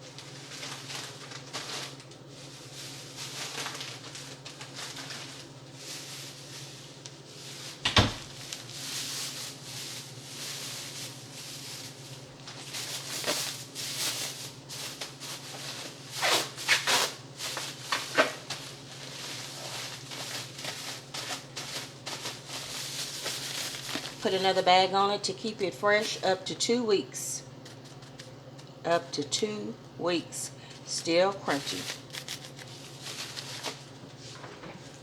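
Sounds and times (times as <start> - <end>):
plastic bag crinkling: 0.0 - 25.0, 27.6 - 28.8, 30.7 - 35.0.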